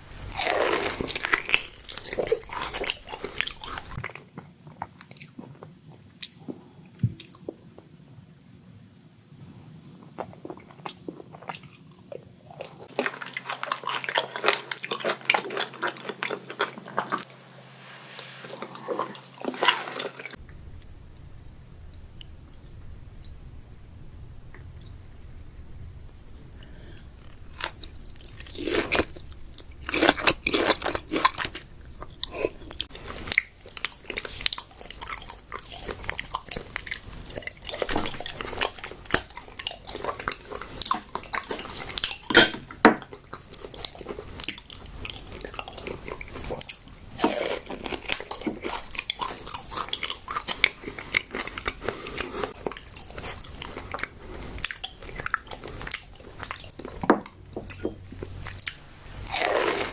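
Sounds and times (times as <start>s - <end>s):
biting and chewing food: 0.2s - 8.0s, 9.8s - 17.3s, 18.4s - 20.5s, 26.6s - 59.9s.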